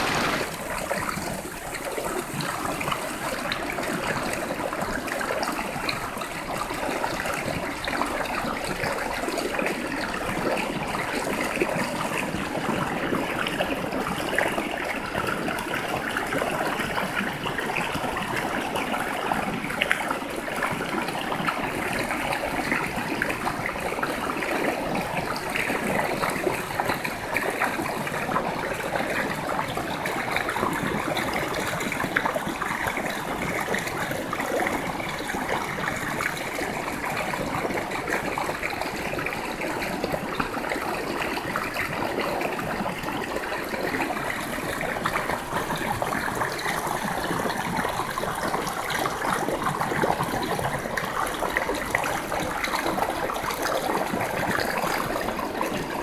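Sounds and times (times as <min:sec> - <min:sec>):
stream water splashing: 0:00.0 - 0:56.0.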